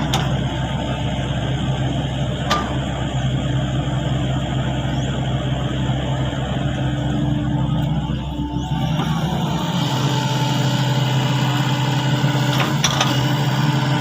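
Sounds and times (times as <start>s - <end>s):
high steady whine: 0.0s - 12.7s
excavator diesel engine running: 0.0s - 14.0s.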